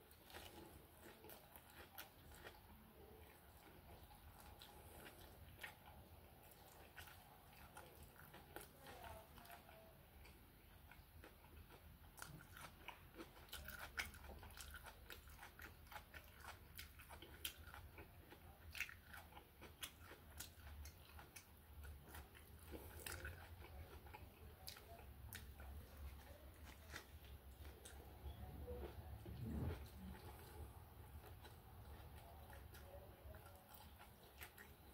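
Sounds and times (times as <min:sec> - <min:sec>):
person chewing and biting food: 0:00.0 - 0:08.7, 0:10.2 - 0:34.9
faint low hum: 0:00.0 - 0:34.9.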